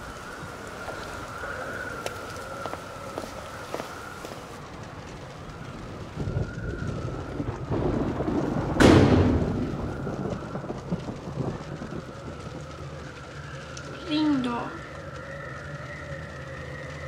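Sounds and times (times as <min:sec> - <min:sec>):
thunder rumbling and cracking: 0:00.0 - 0:17.0.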